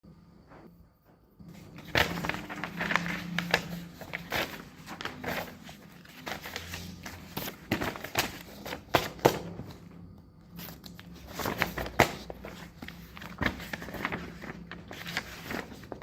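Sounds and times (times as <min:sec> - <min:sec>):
faint low hum: 0:00.0 - 0:16.0
paper sheets rustling: 0:01.5 - 0:09.8, 0:10.5 - 0:16.0.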